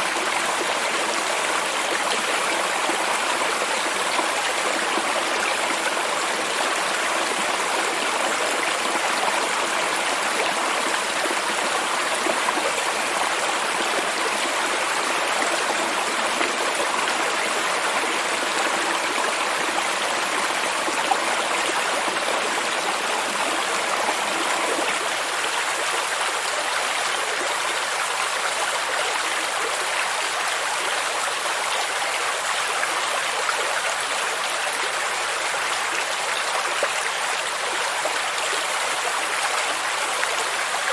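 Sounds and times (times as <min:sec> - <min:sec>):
stream and waterfall rushing: 0:00.0 - 0:40.9.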